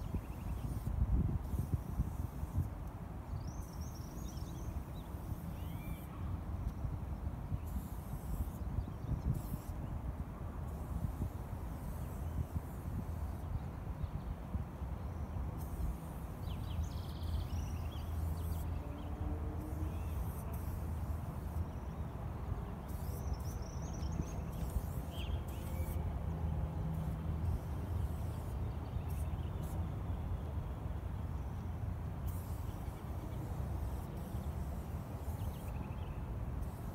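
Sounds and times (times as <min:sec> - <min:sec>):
low mechanical hum: 0:00.0 - 0:36.9.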